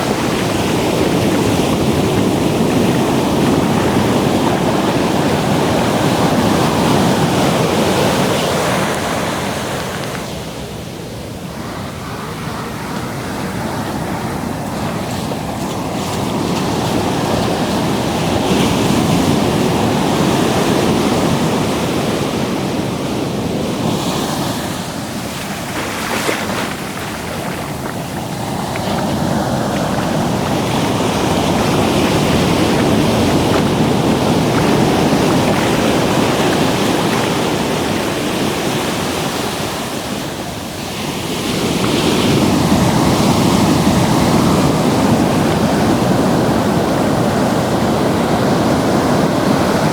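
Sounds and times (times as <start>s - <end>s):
ocean surf breaking: 0.0s - 49.9s
wind on microphone: 0.0s - 49.9s.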